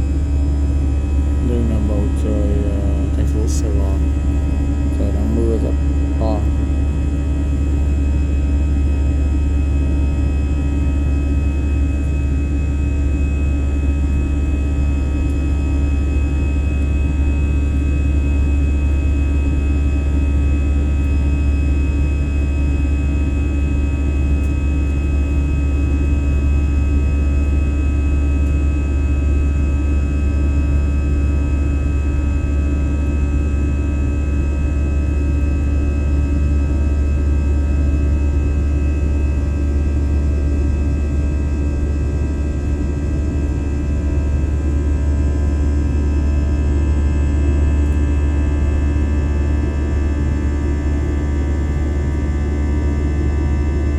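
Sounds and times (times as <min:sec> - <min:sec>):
airliner cabin engine drone: 0:00.0 - 0:53.9.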